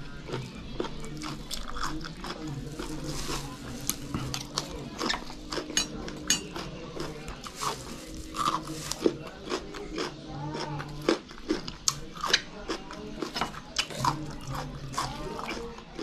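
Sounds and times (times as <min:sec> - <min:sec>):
crunching raw vegetables: 0:00.0 - 0:16.0.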